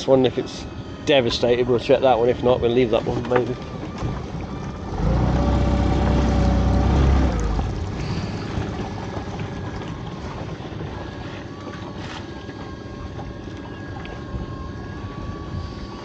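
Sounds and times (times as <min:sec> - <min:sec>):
outboard motor revving: 0:01.1 - 0:16.0.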